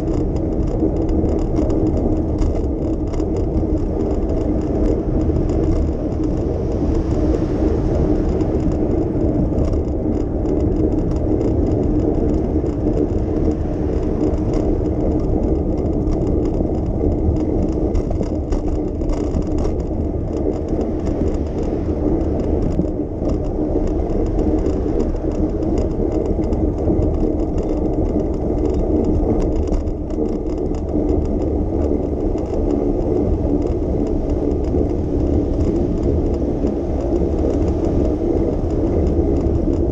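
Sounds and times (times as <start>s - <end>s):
bicycle tyre hum: 0.0s - 39.9s
light rattling: 0.0s - 39.9s
wind on microphone: 0.0s - 39.9s.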